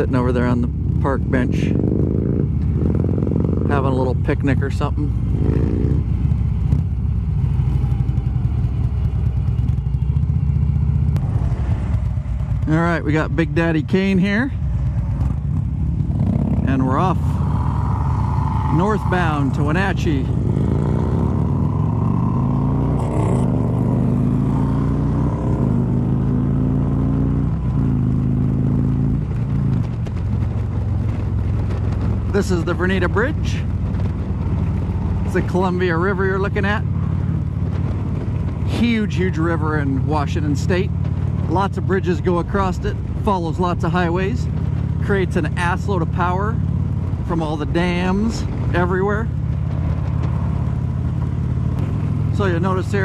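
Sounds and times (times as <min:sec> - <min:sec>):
motorcycle engine rumbling: 0:00.0 - 0:53.0.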